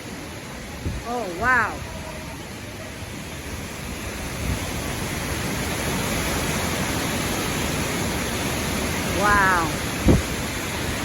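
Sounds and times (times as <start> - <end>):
strong storm wind rushing: 0.7 - 11.0.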